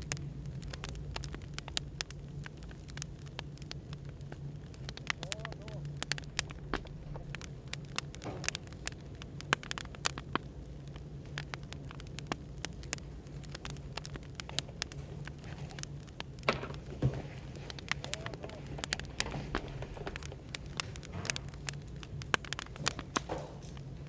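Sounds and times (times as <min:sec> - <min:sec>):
cafe background hum: 0:00.0 - 0:24.0
wood fire crackling: 0:00.0 - 0:24.0.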